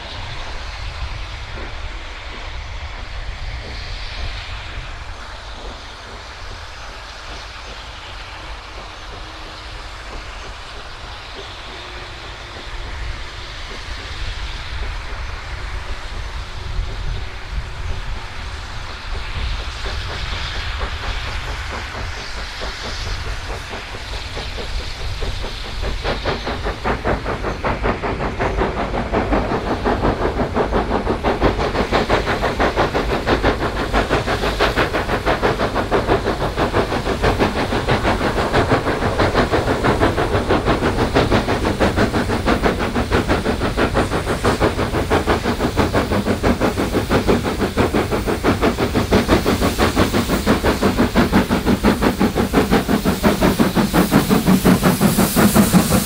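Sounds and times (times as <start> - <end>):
steam hiss: 0.0 - 56.0
steam locomotive exhaust chuffs: 0.0 - 56.0.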